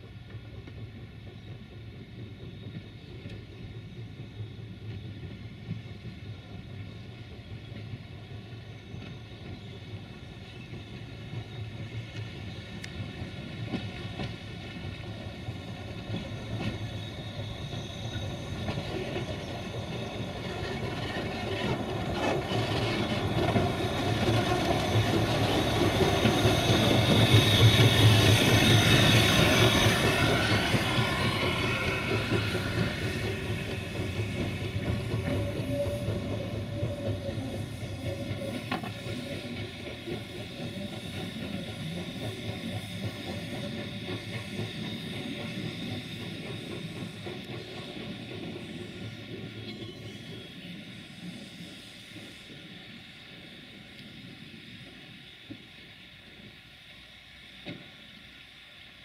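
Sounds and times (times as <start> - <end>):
steam hissing: 0.5 - 59.0.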